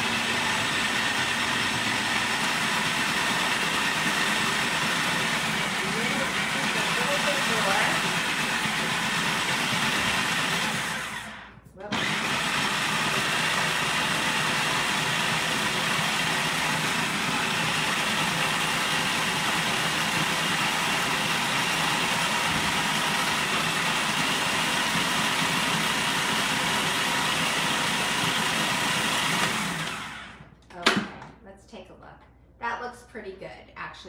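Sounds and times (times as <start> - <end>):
food processor running: 0.0 - 30.5.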